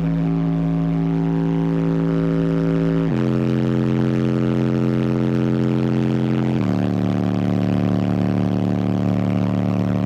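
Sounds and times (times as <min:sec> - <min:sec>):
distorted subwoofer bass tone: 0:00.0 - 0:10.0.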